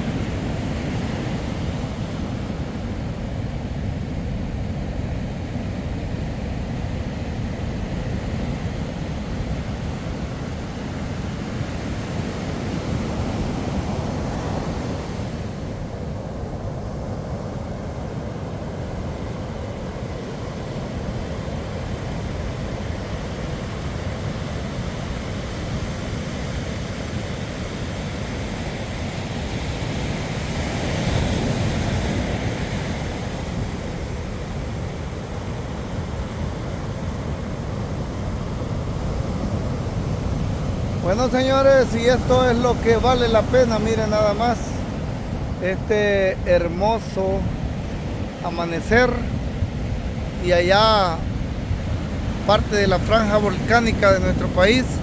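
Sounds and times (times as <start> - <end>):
surf on a beach: 0.0 - 55.0
wind: 0.0 - 55.0.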